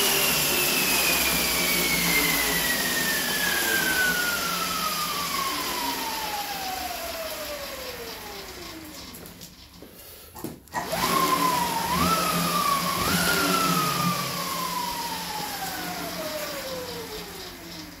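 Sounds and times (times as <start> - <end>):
treadmill belt whine: 0.0 - 18.0.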